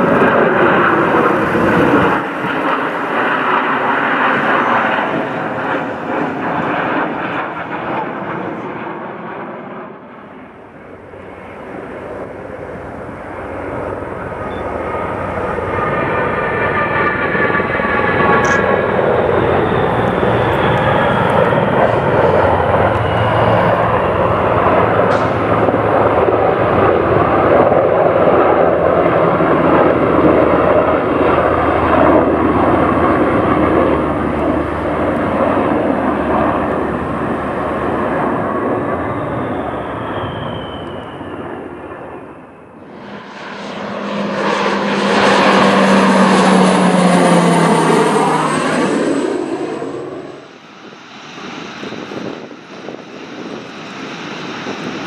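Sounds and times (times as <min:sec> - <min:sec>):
helicopter rotor noise: 0:00.0 - 0:55.0
turboprop engines droning: 0:00.0 - 0:55.0.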